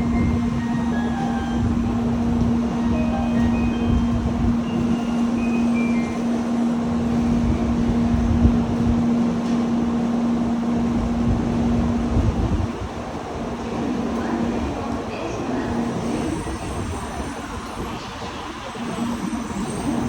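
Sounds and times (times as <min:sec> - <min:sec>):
train running: 0:00.0 - 0:20.0.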